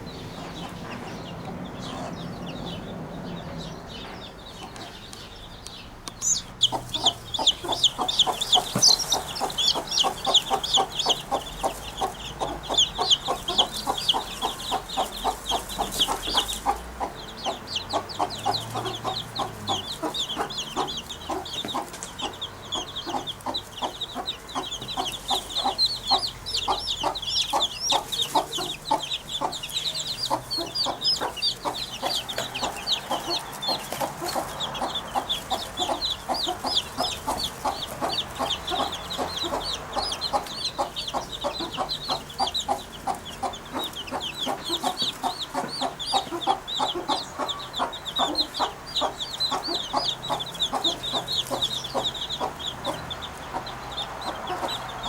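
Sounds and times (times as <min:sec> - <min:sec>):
rapid clucking bird chatter: 0:00.0 - 0:55.0
high bird chirps: 0:03.4 - 0:55.0.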